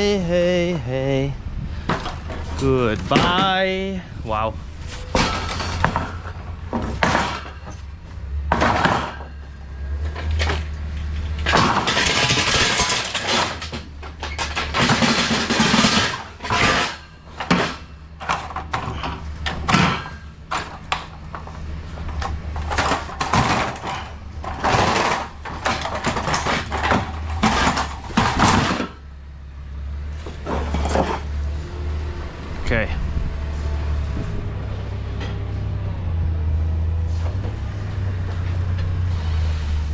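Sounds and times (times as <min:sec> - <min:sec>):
forklift engine hum: 0:00.0 - 0:39.9
rattling and banging of pallets: 0:01.6 - 0:39.9.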